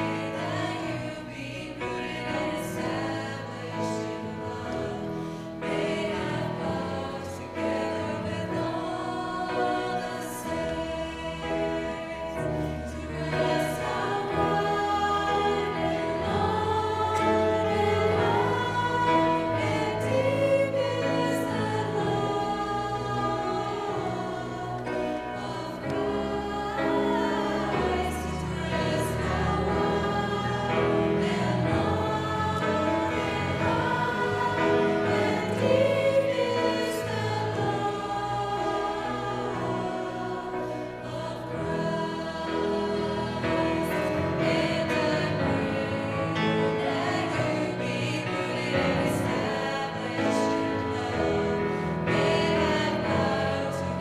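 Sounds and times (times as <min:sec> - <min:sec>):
piano: 0:00.0 - 0:54.0
women's choir singing gospel: 0:00.0 - 0:54.0.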